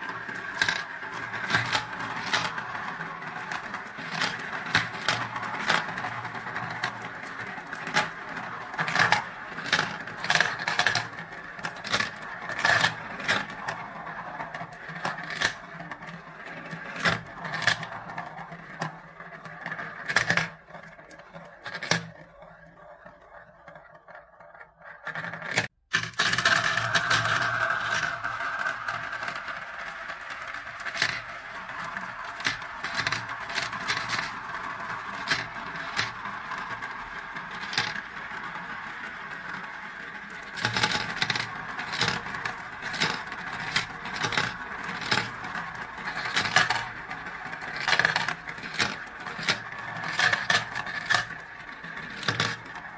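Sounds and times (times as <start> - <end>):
marbles rolling in plastic bowls: 0.0 - 52.9.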